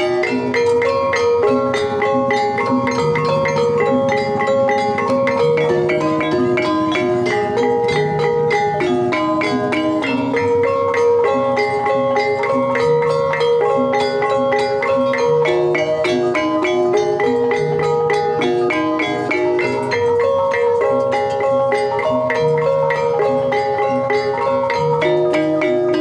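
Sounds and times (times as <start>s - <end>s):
gamelan music: 0.0s - 26.0s.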